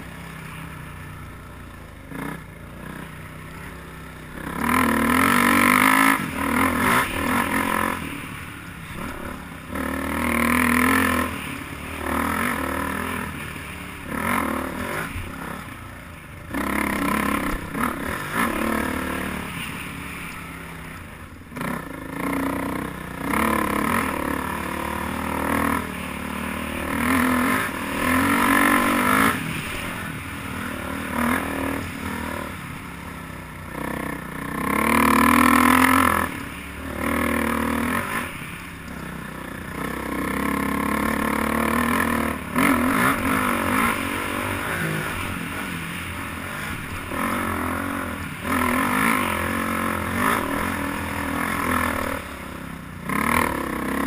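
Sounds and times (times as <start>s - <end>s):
dirt bike engine revving: 2.0s - 54.0s.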